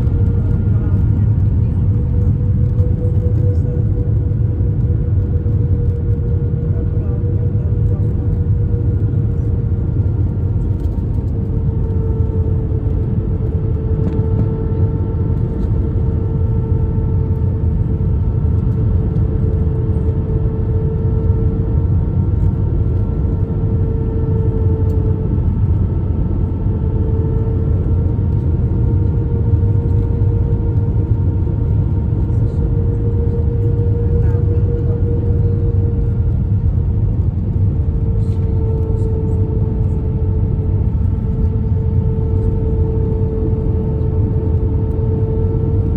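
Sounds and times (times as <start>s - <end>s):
aircraft cabin engine rumble: 0.0s - 45.9s
steady hum: 0.0s - 45.9s.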